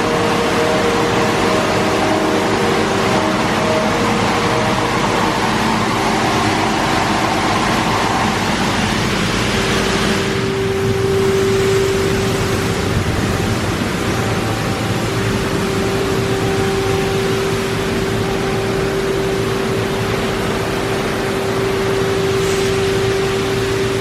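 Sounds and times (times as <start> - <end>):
low machinery hum: 0.0 - 24.0
machinery rushing noise: 0.0 - 24.0.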